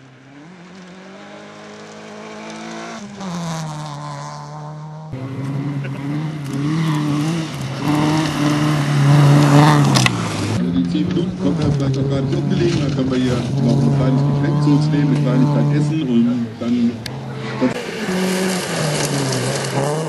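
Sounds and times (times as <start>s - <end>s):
rally car engine under load: 0.0s - 20.0s.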